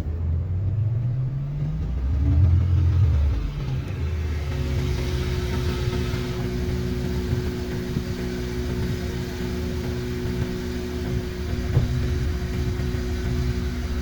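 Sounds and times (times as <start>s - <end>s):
car engine running: 0.0s - 14.0s
short engine knock: 1.0s - 14.0s.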